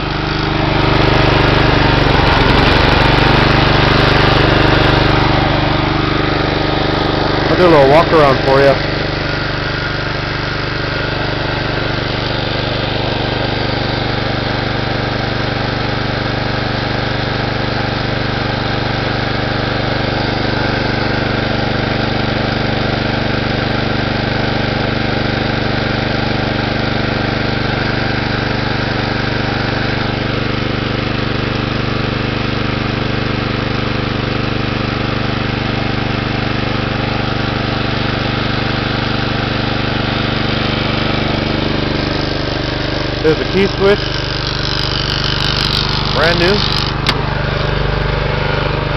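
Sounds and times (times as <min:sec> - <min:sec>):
lawn mower engine running: 0:00.0 - 0:48.9.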